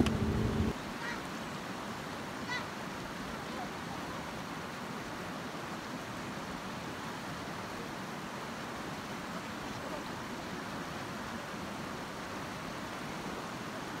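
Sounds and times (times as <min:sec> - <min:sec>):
river flowing over stones: 0:00.0 - 0:14.0.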